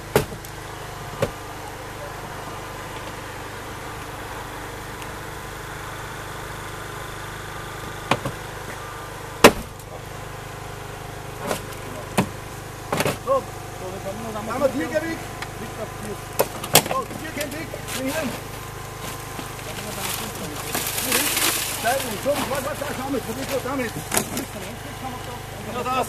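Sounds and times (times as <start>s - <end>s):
power unit engine running: 0.0s - 26.0s.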